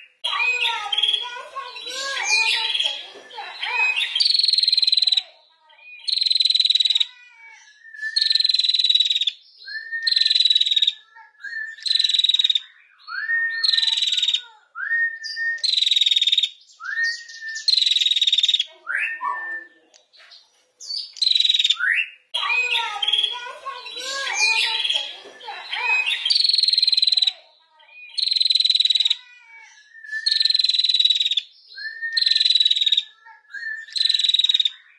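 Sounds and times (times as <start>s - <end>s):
bird calling whistle and rattle: 0.0s - 5.3s, 5.9s - 27.4s, 28.0s - 34.9s.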